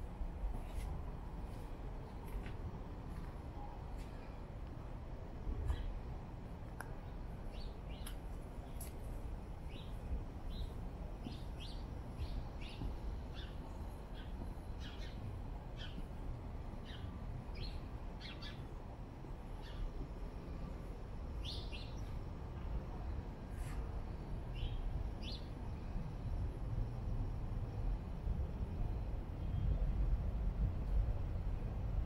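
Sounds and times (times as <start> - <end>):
low city rumble: 0.0 - 32.0.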